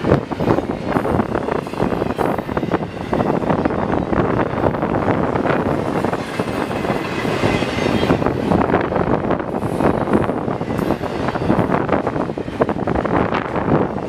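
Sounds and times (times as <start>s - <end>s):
train wheels rolling on rail: 0.0s - 14.0s.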